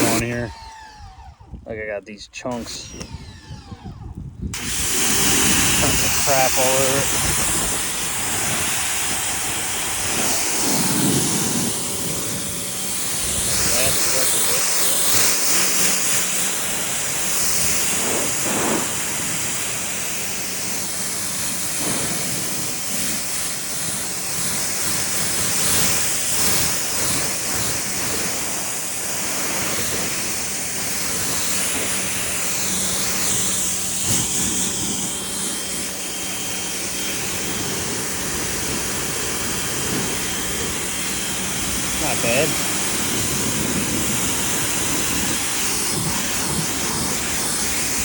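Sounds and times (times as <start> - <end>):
pressure washer spraying water: 0.0 - 0.9, 2.4 - 3.5, 4.6 - 48.0
faint motor hum: 0.0 - 48.0.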